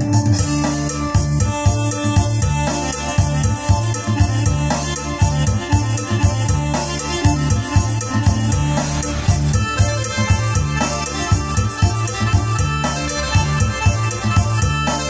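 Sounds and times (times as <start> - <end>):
bass accompaniment: 0.0 - 15.0
keyboard melody: 0.0 - 15.0
drum beat: 0.3 - 15.0.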